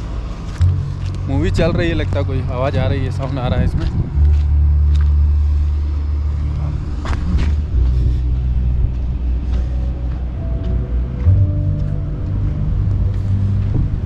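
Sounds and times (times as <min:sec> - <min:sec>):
faint music tones: 0:00.0 - 0:14.0
muffled deep rumble: 0:00.0 - 0:14.0.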